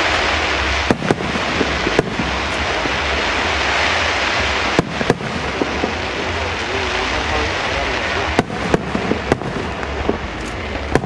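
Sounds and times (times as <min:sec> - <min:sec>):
fireworks crackling hiss: 0:00.0 - 0:11.0
fireworks shells bursting: 0:00.0 - 0:11.0.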